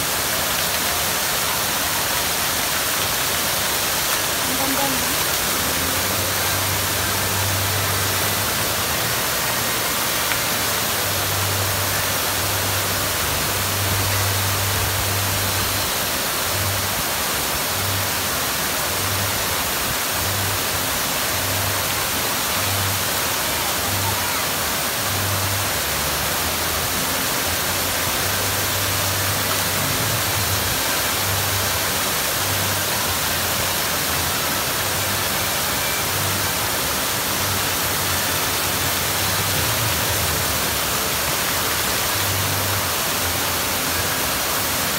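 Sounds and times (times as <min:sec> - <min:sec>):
fountain water splashing: 0:00.0 - 0:44.9.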